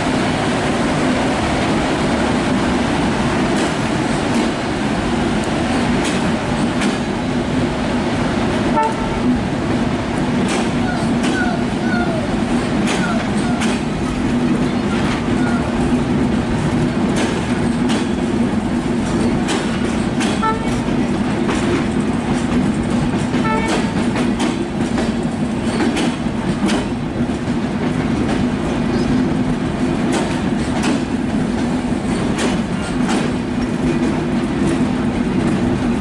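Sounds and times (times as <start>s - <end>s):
train rumble: 0.0s - 36.0s
train wheels clicking over rail joints: 0.1s - 36.0s.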